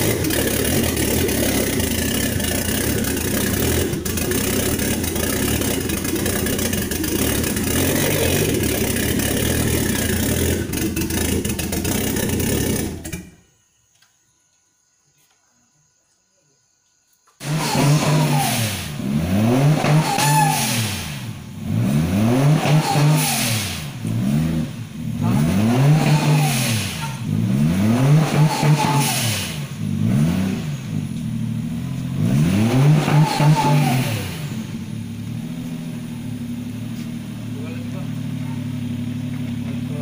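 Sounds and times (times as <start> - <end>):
car engine revving and idling: 0.0 - 13.3, 17.4 - 40.0.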